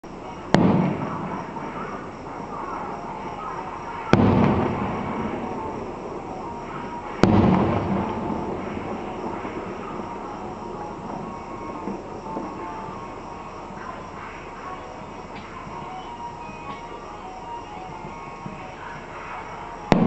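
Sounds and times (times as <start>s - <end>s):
fireworks booming: 0.0s - 17.2s, 17.8s - 20.0s.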